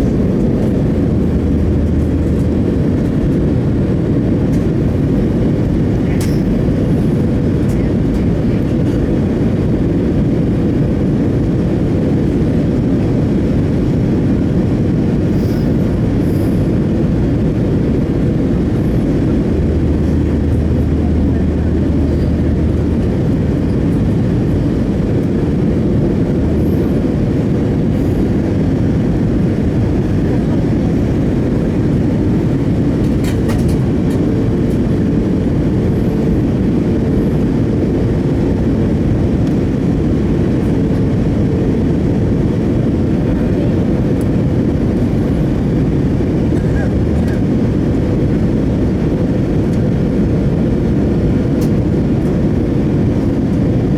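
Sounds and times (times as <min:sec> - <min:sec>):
deeper hum: 0:00.0 - 0:53.9
jet engine cabin rumble: 0:00.0 - 0:53.9.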